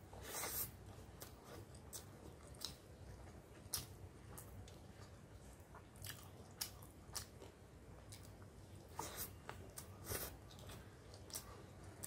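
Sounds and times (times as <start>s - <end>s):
mouth chewing: 0.2s - 12.0s.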